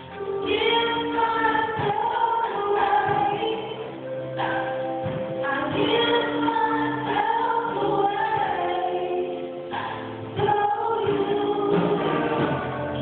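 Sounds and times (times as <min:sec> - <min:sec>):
woman singing: 0:00.2 - 0:04.6, 0:05.4 - 0:13.0.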